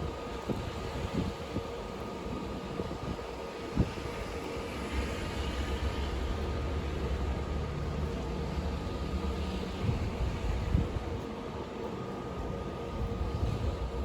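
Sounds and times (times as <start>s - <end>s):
snowstorm wind blowing: 0.0s - 14.0s.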